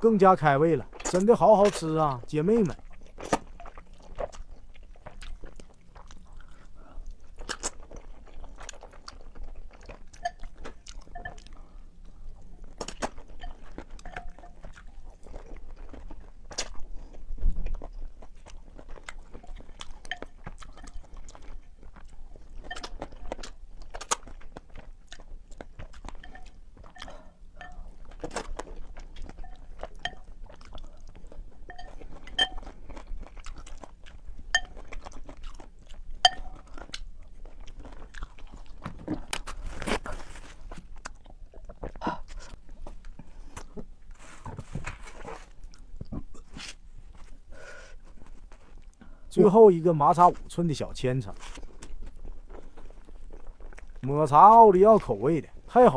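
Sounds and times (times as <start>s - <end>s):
person chewing food: 2.6s - 49.4s, 50.2s - 54.1s.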